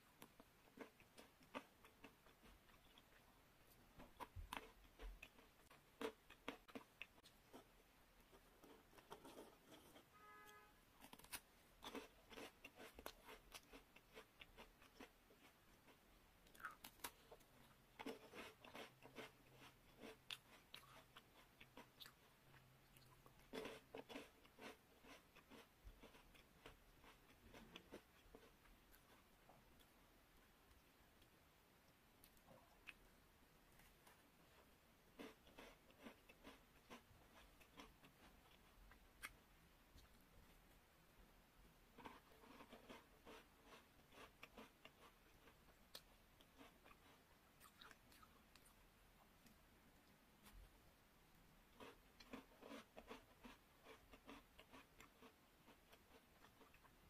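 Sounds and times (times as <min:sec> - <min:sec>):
crunchy biscuit chewing: 0:00.2 - 0:10.1, 0:11.0 - 0:30.0, 0:33.7 - 0:40.6, 0:41.9 - 0:48.8, 0:51.7 - 0:57.0.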